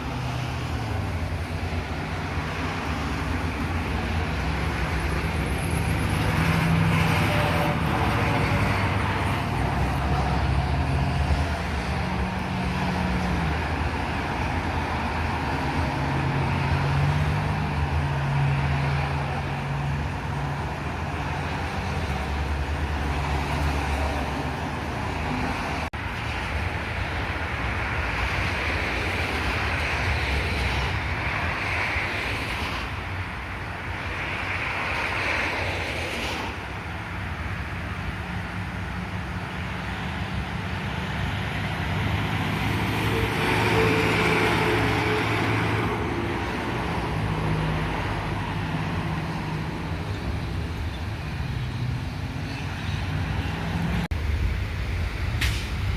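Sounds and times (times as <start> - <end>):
heavy trucks engine drone: 0.0 - 55.9
road traffic passing: 0.0 - 55.9.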